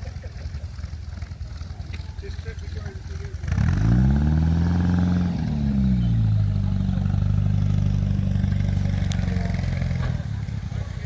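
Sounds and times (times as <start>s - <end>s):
engine running at raised revs: 0.0s - 11.0s.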